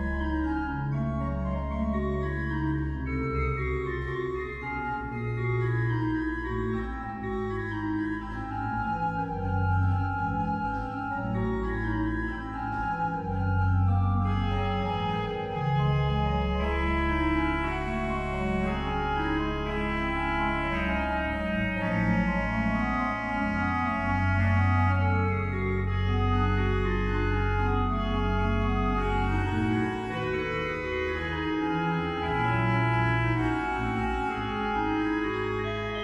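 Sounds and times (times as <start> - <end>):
deep organ pedal notes: 0.0 - 36.0
pipe organ chords: 0.0 - 36.0.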